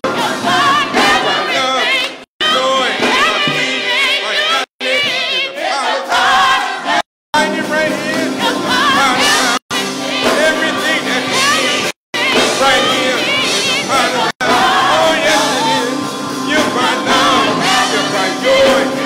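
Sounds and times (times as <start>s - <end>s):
gospel choir singing: 0.0s - 19.0s.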